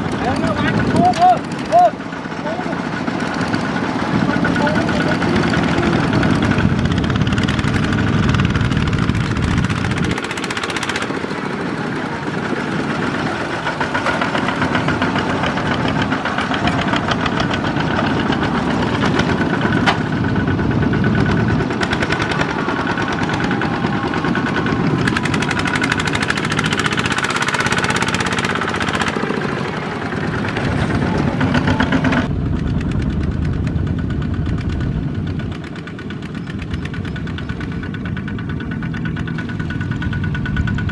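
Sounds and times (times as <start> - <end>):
diesel tractor engines chugging: 0.0 - 40.9.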